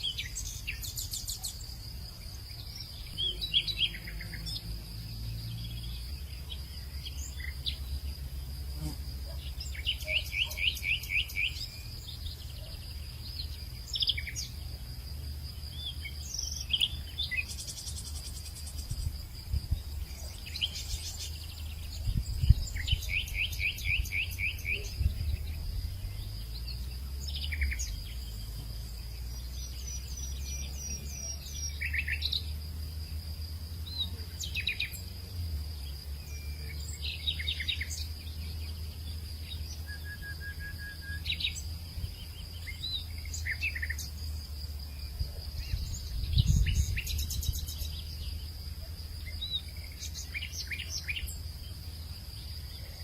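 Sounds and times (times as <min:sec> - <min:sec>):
birds chirping and trilling: 0:00.0 - 0:53.0.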